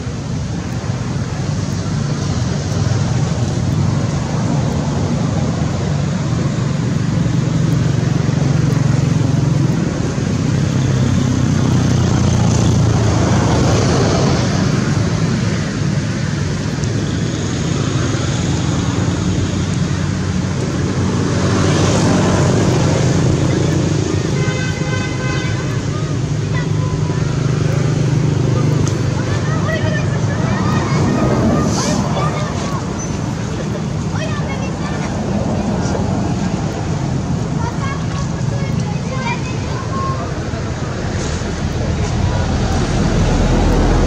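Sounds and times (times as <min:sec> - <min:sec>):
road traffic rumble: 0:00.0 - 0:44.0
vehicles passing: 0:00.0 - 0:44.0.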